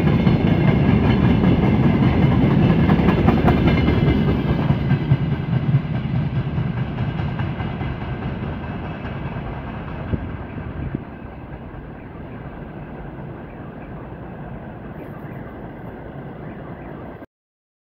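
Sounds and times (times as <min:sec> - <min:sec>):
freight train rolling on rails: 0:00.0 - 0:17.2.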